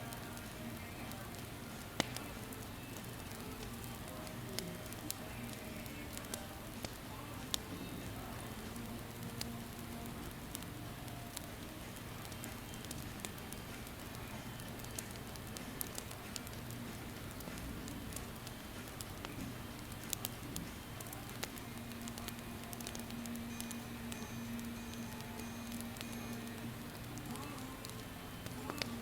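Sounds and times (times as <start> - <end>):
campfire flames hissing: 0.0 - 29.0
faint low hum: 0.0 - 29.0
fire crackles and pops: 0.0 - 29.0.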